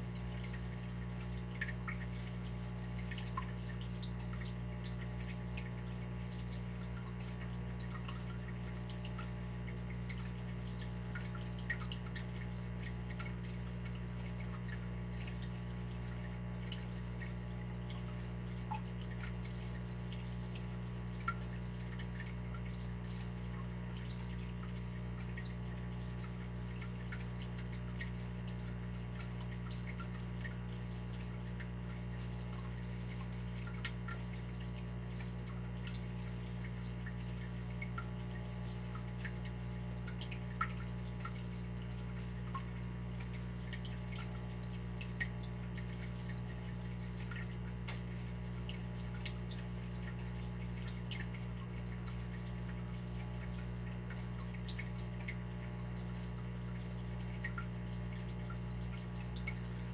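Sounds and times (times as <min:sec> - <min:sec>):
water dripping and trickling: 0:00.0 - 0:59.9.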